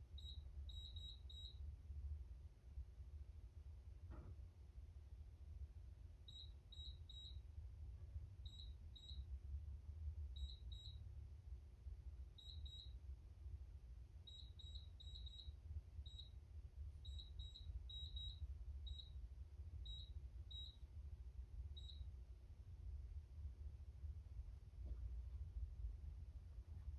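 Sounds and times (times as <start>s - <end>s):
low steady hum: 0.0s - 26.9s.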